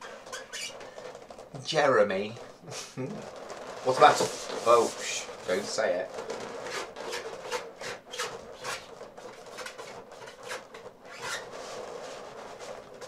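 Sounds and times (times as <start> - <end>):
pen rubbing on balloon: 0.0 - 13.0.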